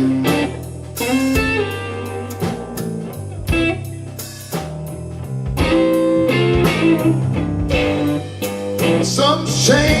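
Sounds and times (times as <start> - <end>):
bass guitar: 0.0 - 10.0
drum kit: 0.0 - 10.0
electric guitar lead: 0.0 - 10.0.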